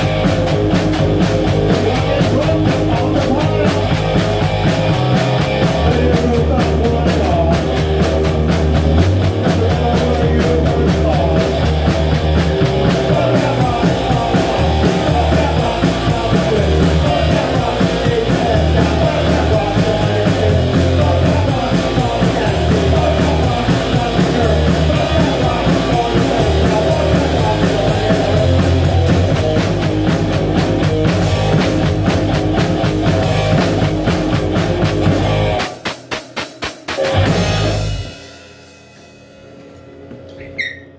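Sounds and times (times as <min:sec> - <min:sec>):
electric bass: 0:00.0 - 0:35.9, 0:36.9 - 0:38.4
electric guitar: 0:00.0 - 0:38.5
driving drumbeat: 0:00.0 - 0:40.3.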